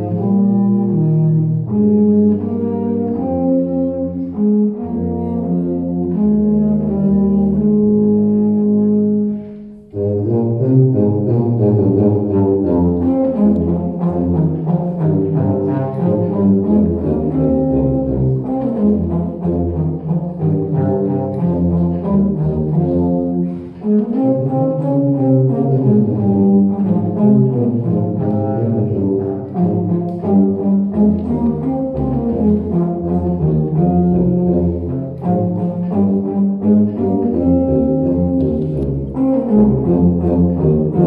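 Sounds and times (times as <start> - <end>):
low classical duet: 0.0 - 41.0.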